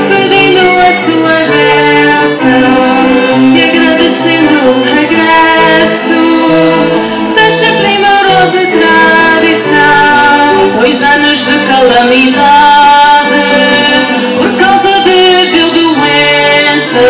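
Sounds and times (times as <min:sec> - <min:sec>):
instrumental accompaniment: 0:00.0 - 0:17.0
women singing into microphones: 0:00.0 - 0:17.0.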